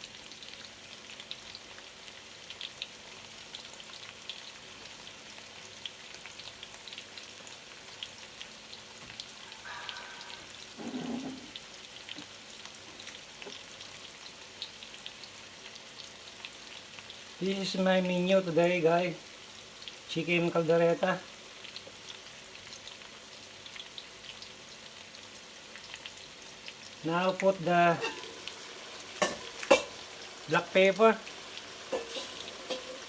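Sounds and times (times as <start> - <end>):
chicken sizzling in a pan: 0.0 - 33.0.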